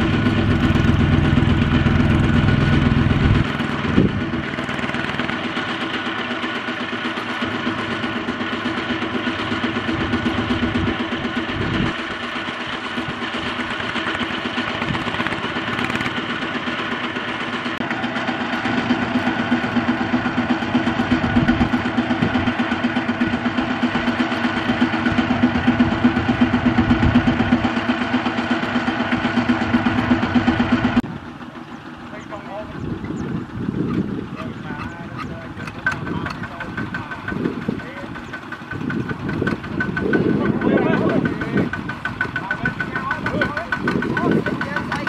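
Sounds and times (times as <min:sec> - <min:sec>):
diesel tractor engine running: 0:00.0 - 0:45.0.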